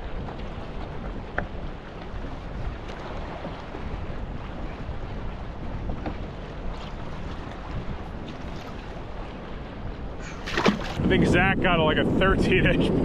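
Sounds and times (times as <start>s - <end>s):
water lapping at kayak hull: 0.0s - 13.0s
wind buffeting microphone: 0.0s - 13.0s.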